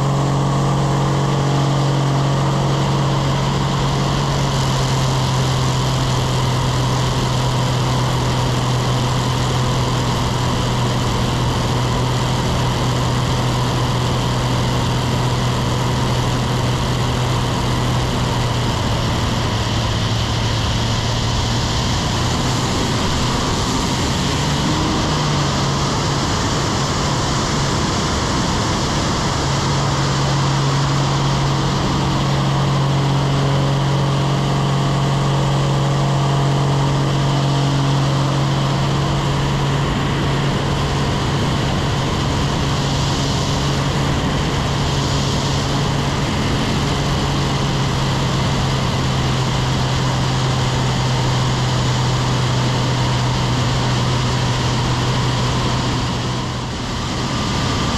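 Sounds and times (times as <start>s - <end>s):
plane piston engine and propeller: 0.0s - 57.9s
wind rush: 0.0s - 57.9s.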